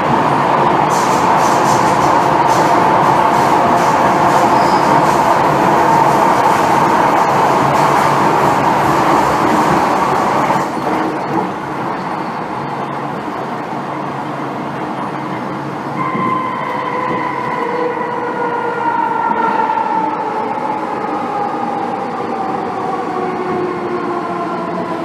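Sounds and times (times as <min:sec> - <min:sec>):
train rumbling ride noise: 0:00.0 - 0:25.0.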